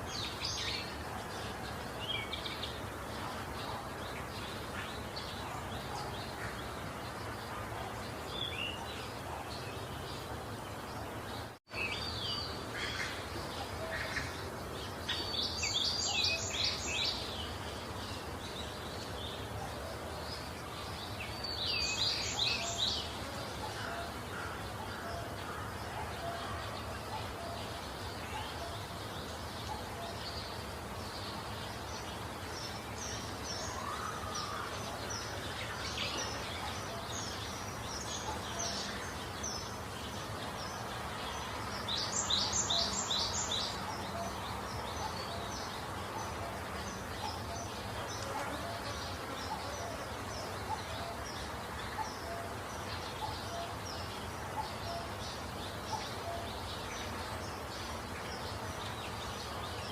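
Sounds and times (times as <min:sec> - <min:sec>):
small birds chirping: 0:00.0 - 0:59.9
steady outdoor hiss: 0:00.0 - 0:59.9.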